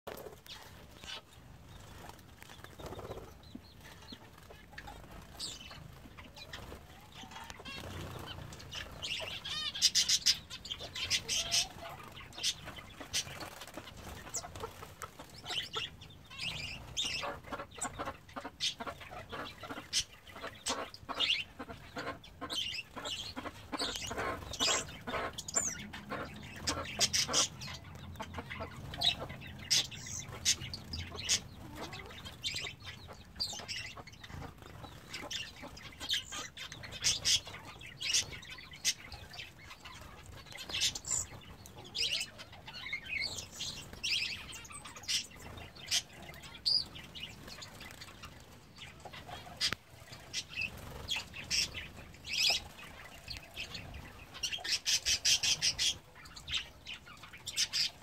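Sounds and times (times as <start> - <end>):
finches chirping: 0.1 - 58.0
hens clucking: 0.1 - 58.0.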